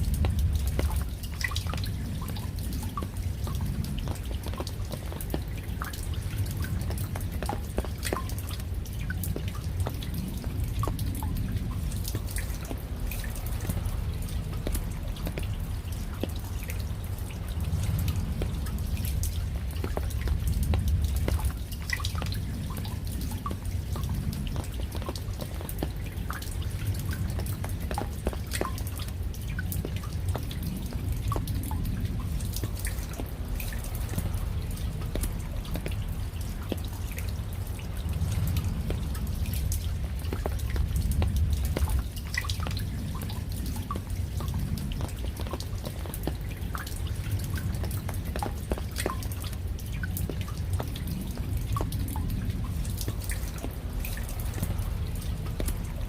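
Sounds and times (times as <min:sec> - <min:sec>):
raindrops dripping: 0:00.0 - 0:56.0
steady low rumble: 0:00.0 - 0:56.0.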